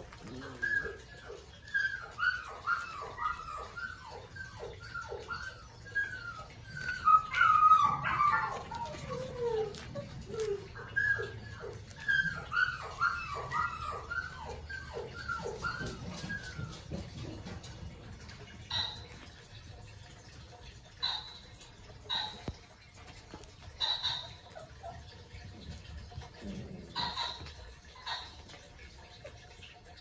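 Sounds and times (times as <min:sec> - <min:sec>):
puppies whining: 0:00.0 - 0:30.0.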